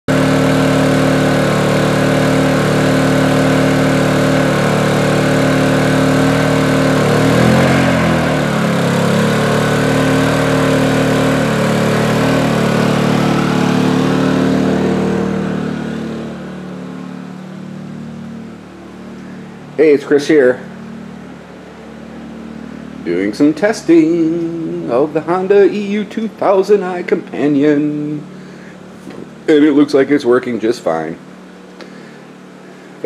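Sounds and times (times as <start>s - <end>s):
generator engine running: 0.0s - 33.0s.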